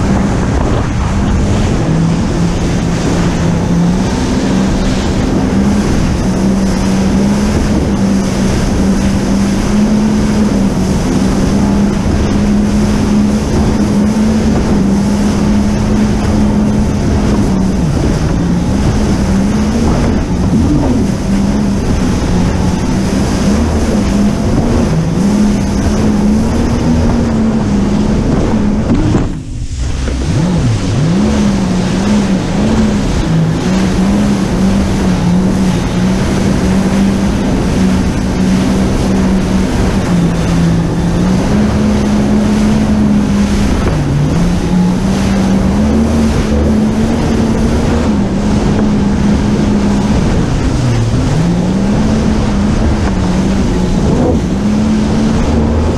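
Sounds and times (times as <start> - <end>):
jet ski engine running: 0.0 - 55.9
rushing water: 0.0 - 55.9
wind on microphone: 0.0 - 55.9.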